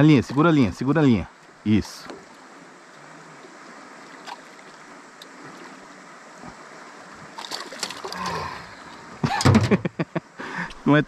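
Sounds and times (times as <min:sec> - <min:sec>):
river water rushing: 0:00.0 - 0:09.5.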